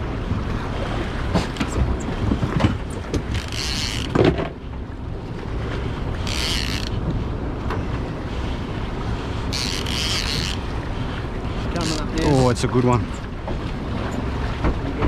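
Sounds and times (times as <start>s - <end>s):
water against boat hull: 0.0s - 15.0s.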